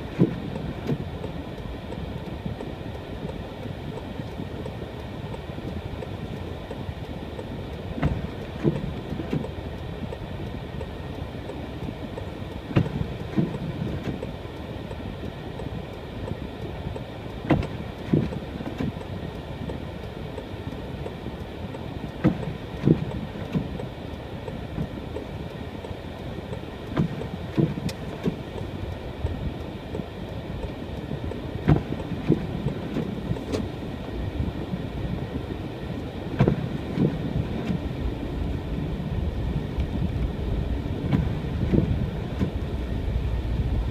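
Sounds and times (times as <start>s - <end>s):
car tyres and engine rumbling: 0.0s - 43.9s.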